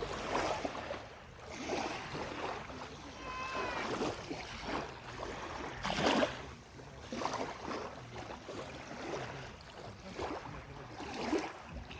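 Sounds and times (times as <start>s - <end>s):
lake waves lapping at shore: 0.0s - 11.9s.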